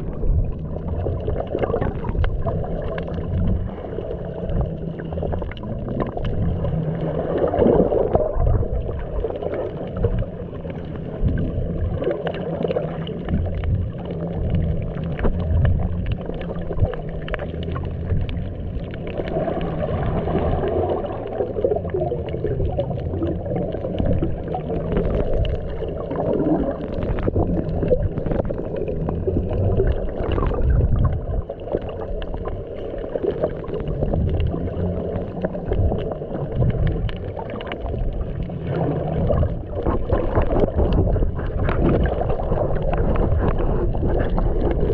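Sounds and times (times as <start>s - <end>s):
underwater churning rumble: 0.0s - 44.9s
water gurgling: 0.0s - 44.9s.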